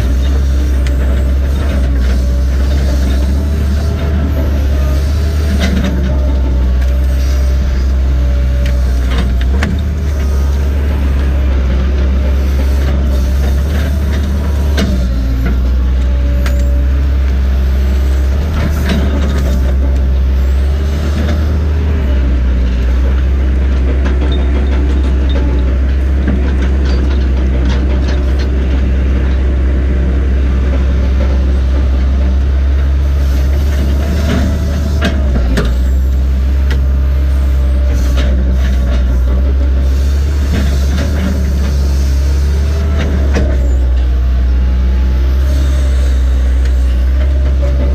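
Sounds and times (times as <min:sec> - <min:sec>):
excavator engine drone: 0:00.0 - 0:47.9.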